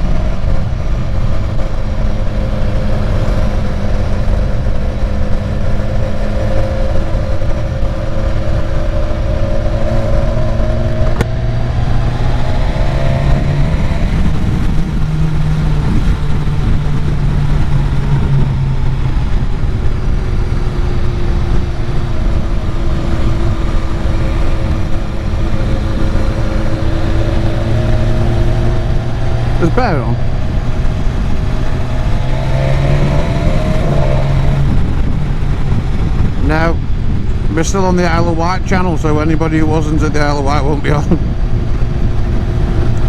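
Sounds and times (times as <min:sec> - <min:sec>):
motorcycle engine accelerating: 0:00.0 - 0:43.0
wind rumble on microphone: 0:00.0 - 0:43.0.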